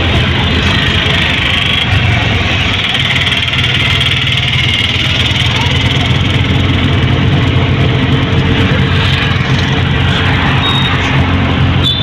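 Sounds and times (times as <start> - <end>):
auto-rickshaw engine throb: 0.0 - 12.0
road and traffic noise: 0.0 - 12.0.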